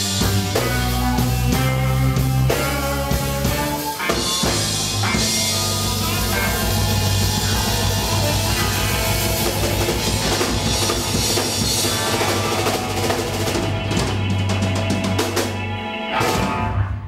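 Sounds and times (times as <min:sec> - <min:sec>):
funk rock band playing: 0:00.0 - 0:17.0.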